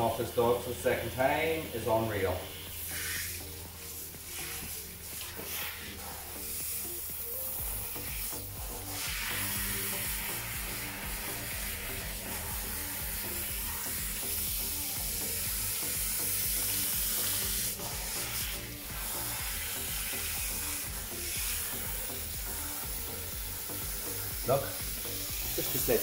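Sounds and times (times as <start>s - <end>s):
shower head spraying water: 0.0s - 26.0s
water running off: 0.0s - 26.0s.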